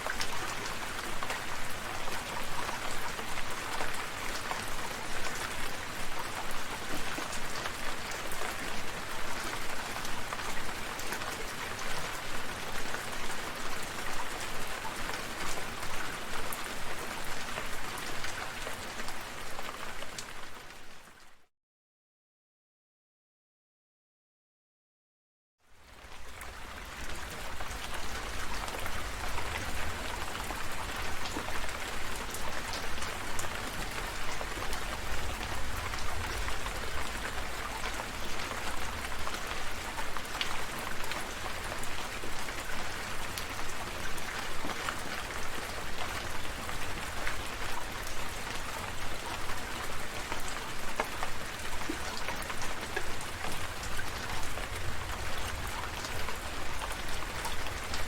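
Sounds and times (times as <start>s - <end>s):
rain with drops pattering: 0.0s - 21.4s, 25.6s - 58.0s.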